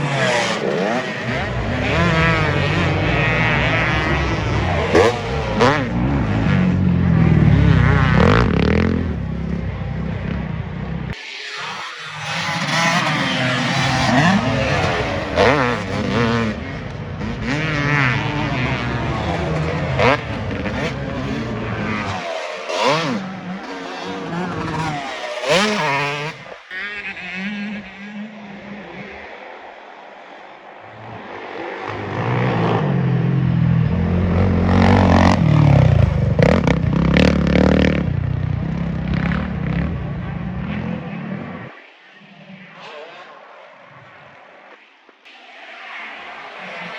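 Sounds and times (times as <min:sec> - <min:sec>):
racing engines revving: 0:00.0 - 0:46.9.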